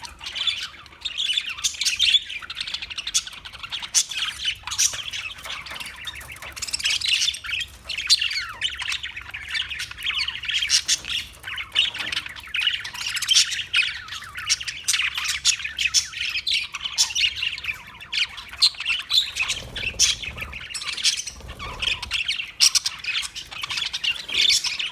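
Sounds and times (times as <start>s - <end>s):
parakeets chirping and squawking: 0.0s - 24.9s.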